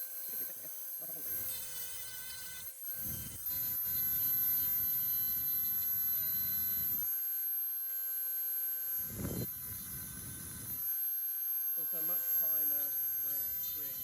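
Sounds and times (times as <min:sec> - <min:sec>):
rotary tool high whine on metal: 0:00.0 - 0:14.0.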